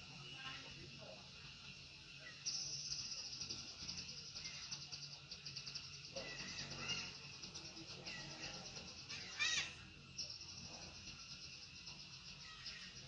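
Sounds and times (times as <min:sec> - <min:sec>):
high pulsing insect trill: 0:00.0 - 0:13.0.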